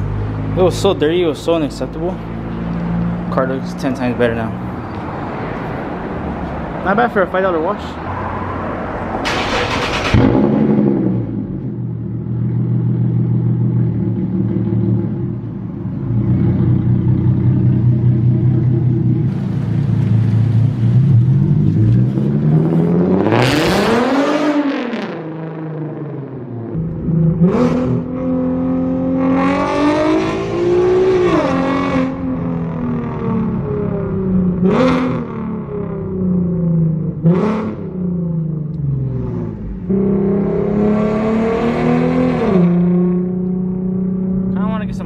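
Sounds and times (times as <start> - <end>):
car engine droning and revving: 0.0 - 45.0.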